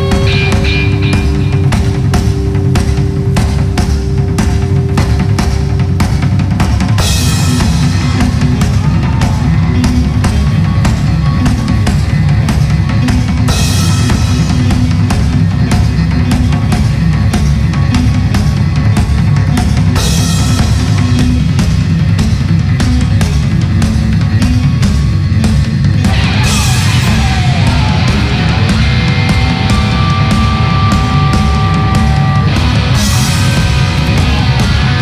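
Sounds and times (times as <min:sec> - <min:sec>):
rock band playing: 0:00.0 - 0:35.0.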